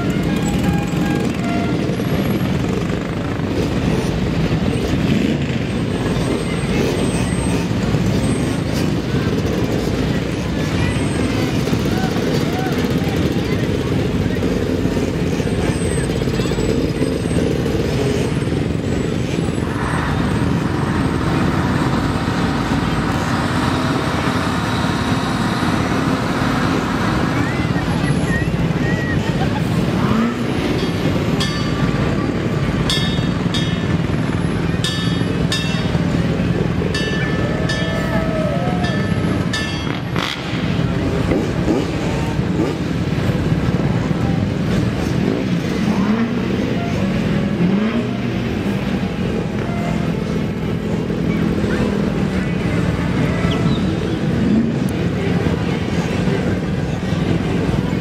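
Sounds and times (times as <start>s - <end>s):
slow-moving vehicle engines: 0.0s - 58.0s
street traffic din: 0.0s - 58.0s.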